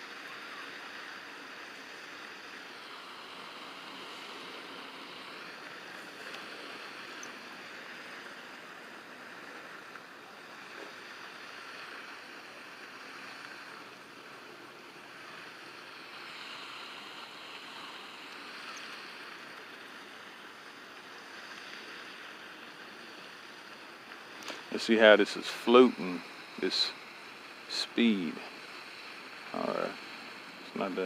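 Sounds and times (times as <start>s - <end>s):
steady outdoor rushing noise: 0.0s - 31.0s.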